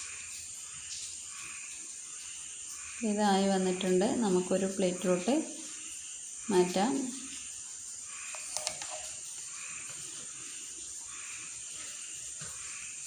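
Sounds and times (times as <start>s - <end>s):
crickets chirping: 0.0s - 13.0s
steady high hiss: 0.0s - 13.0s.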